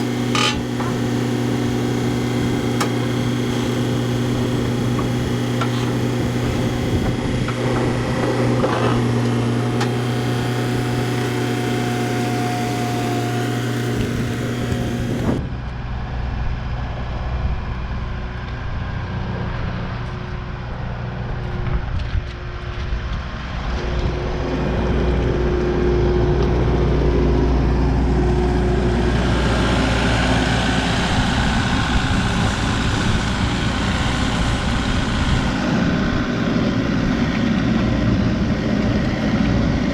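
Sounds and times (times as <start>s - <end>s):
deep engine rumble: 0.0s - 39.9s
vehicle engine running: 0.0s - 39.9s.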